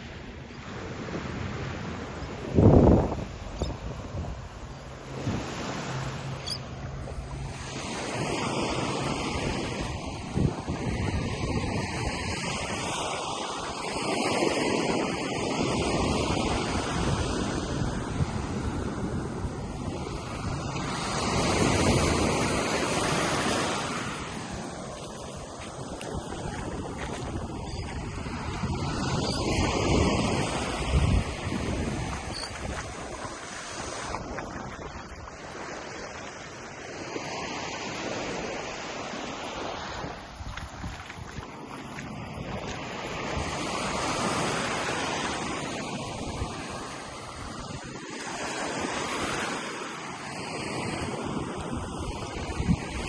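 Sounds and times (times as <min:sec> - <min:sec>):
ocean surf washing onto beach: 0:00.0 - 0:53.0
wind rumbling on microphone: 0:00.0 - 0:53.0.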